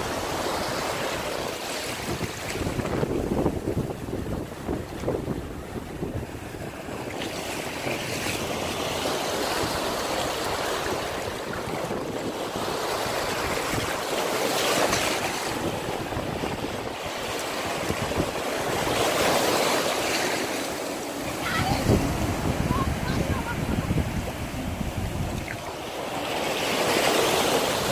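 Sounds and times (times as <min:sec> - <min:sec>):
surf waves breaking on sand: 0:00.0 - 0:27.9
wind buffeting microphone: 0:00.0 - 0:27.9.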